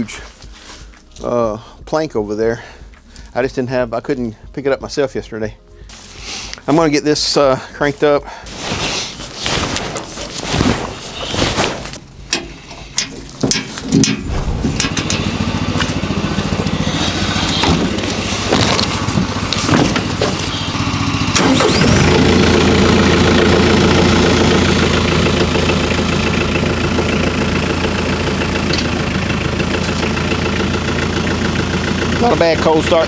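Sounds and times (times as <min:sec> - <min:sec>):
tractor engine cranking and idling: 0:05.9 - 0:33.0.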